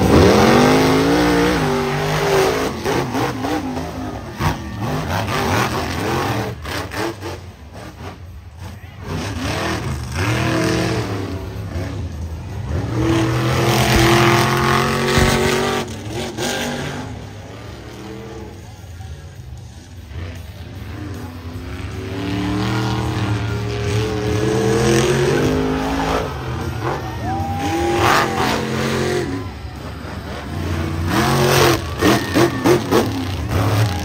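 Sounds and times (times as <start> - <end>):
truck engines revving hard: 0.0 - 34.0.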